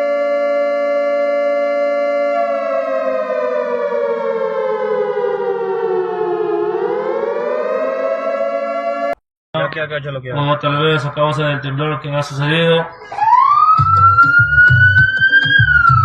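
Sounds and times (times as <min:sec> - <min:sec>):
siren wailing: 0:00.0 - 0:09.7, 0:10.4 - 0:16.0.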